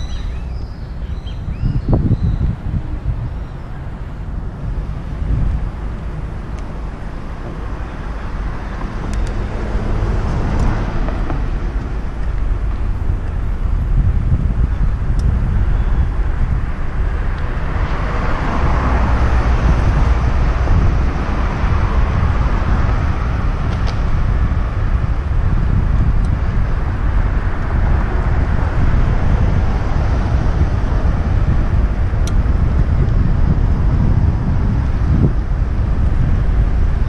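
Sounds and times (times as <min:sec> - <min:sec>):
cars passing: 0:00.0 - 0:37.0
wind rushing over microphone: 0:00.0 - 0:37.0.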